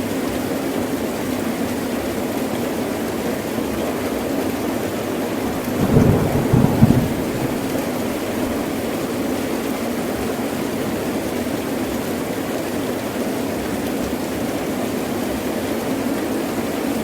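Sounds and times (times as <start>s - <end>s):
heavy rain pouring: 2.1s - 17.0s.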